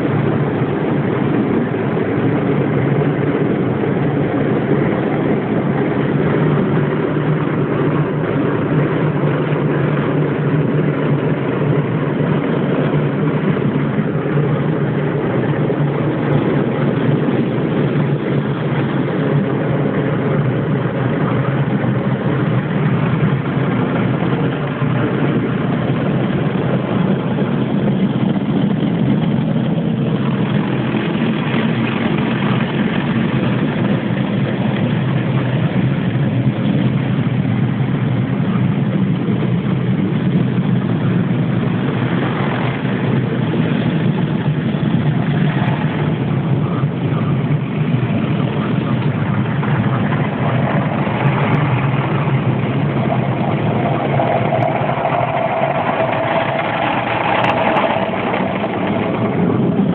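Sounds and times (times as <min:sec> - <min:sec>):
car wash machinery drone: 0:00.0 - 0:59.9
water washing over car: 0:00.0 - 0:59.9.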